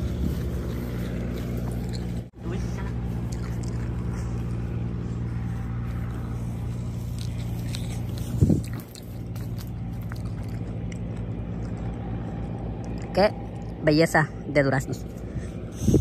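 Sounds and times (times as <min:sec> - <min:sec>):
person biting and chewing fruit: 0:00.0 - 0:13.8
low engine hum: 0:00.0 - 0:16.0.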